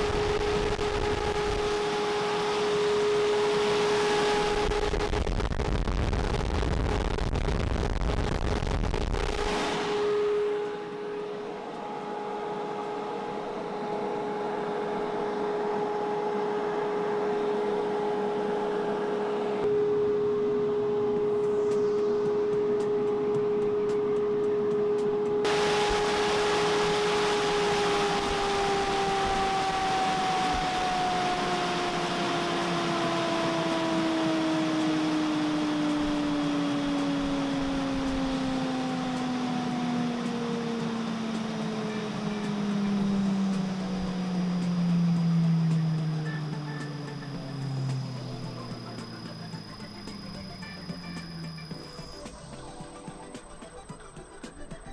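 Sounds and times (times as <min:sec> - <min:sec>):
hammer mill humming and whining: 0:00.0 - 0:54.9.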